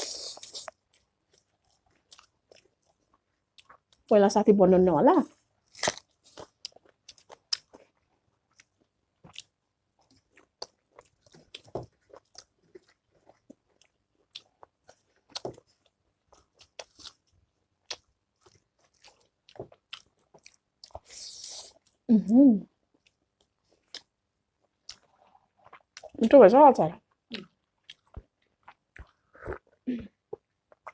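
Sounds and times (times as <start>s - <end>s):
crunching and chewing food: 0.0s - 4.1s, 5.4s - 22.1s, 22.8s - 26.3s, 27.0s - 30.9s.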